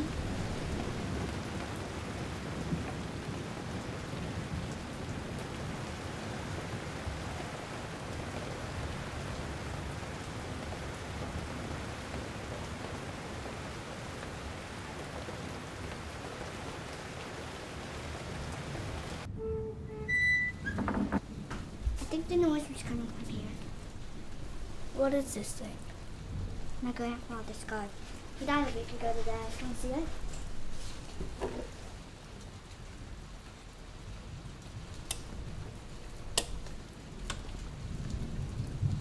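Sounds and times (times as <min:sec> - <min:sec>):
low rumble of thunder: 0:00.0 - 0:16.2, 0:18.0 - 0:39.0
steady rain falling: 0:00.0 - 0:39.0.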